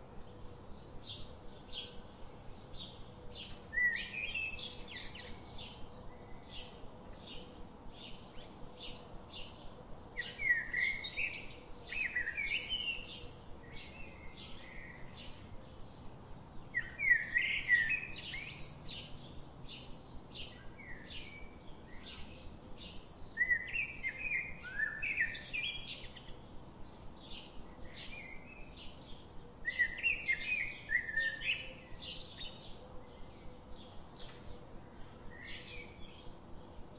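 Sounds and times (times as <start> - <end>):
warbling birdsong: 0.0 - 36.9.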